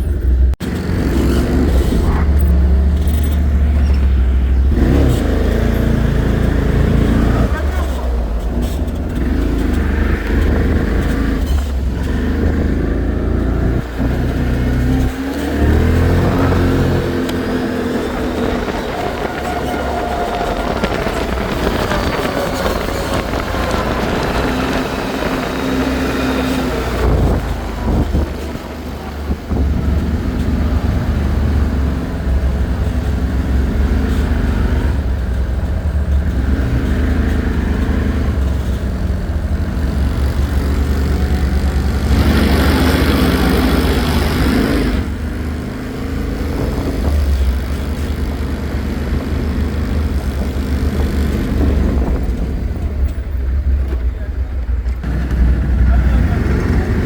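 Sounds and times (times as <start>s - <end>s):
atv engine running: 0.0s - 57.0s
wind rumble on microphone: 0.0s - 57.0s.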